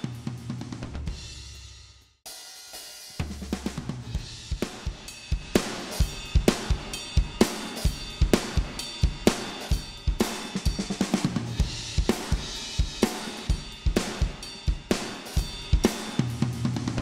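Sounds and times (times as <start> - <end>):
acoustic drum kit groove: 0.0 - 17.0.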